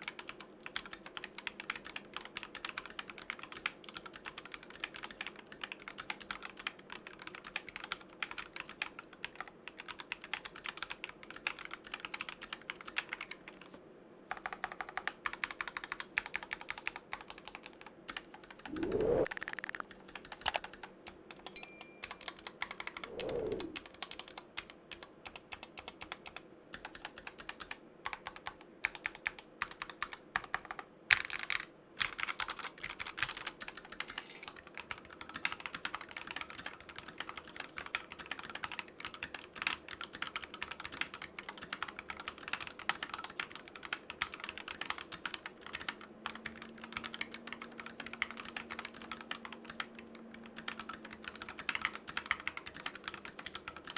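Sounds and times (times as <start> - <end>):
mechanical keyboard typing: 0.0 - 13.7, 14.3 - 53.9.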